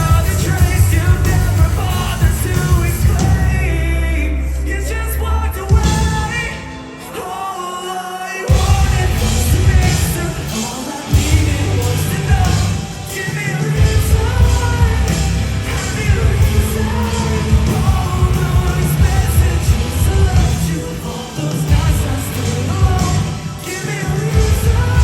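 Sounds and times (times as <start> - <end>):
lead singer singing: 0.0 - 25.0
rock band playing live: 0.0 - 25.0.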